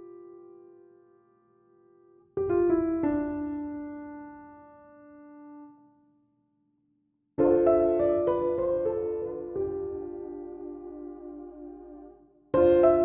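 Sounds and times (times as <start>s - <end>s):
soft piano music: 0.0s - 6.1s, 7.4s - 13.0s.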